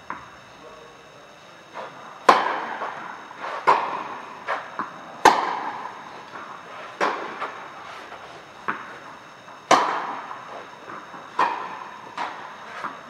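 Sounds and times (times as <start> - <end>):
tennis ball hits by rackets: 1.8 - 9.0, 9.6 - 13.0
tennis ball bounces: 1.8 - 13.0.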